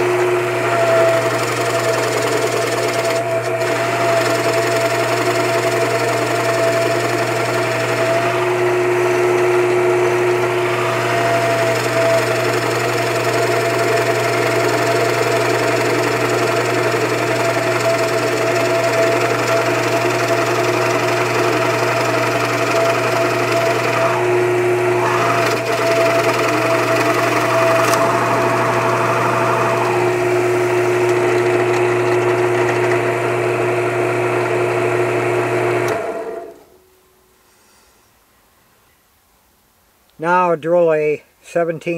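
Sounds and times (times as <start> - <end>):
drill press boring wood: 0.0 - 36.7.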